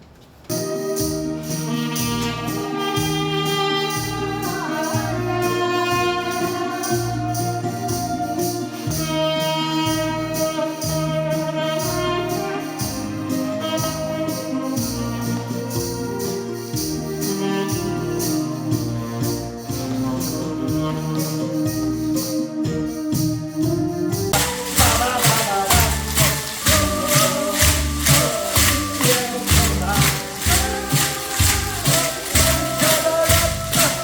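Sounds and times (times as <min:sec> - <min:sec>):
background music with jingling beat: 0:00.5 - 0:34.0.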